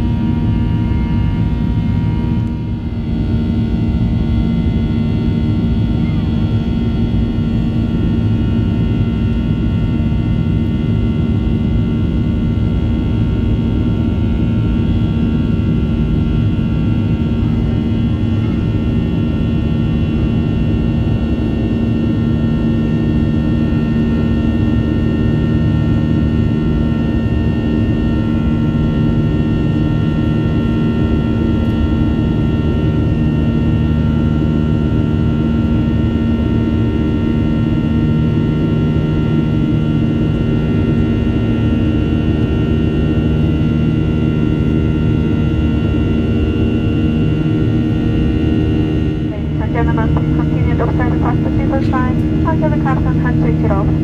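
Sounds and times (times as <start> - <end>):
jet engines rumbling: 0.0 - 54.0
steady humming tones: 0.0 - 54.0.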